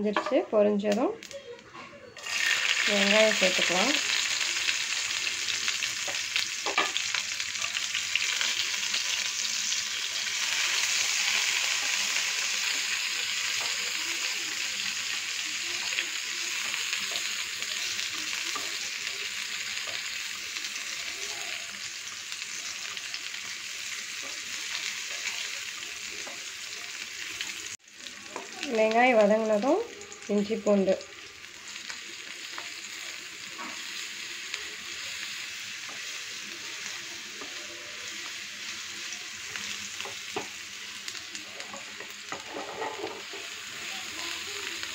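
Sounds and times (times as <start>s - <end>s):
shallots sizzling in oil: 0.0s - 44.9s.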